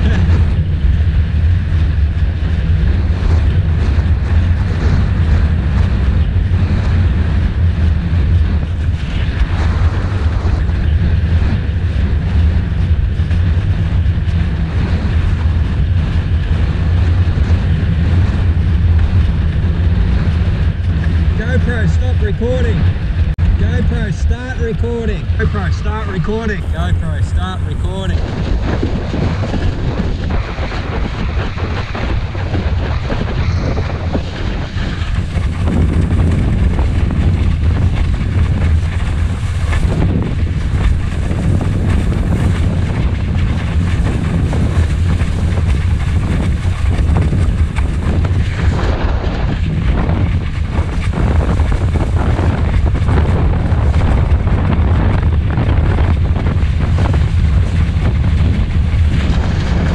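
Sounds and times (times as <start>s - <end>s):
board rushing across water: 0.0s - 59.9s
wind buffeting microphone: 0.0s - 59.9s.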